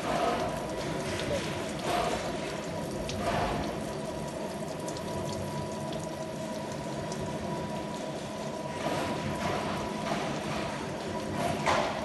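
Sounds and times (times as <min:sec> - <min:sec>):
coolant oil hissing: 0:00.0 - 0:12.0.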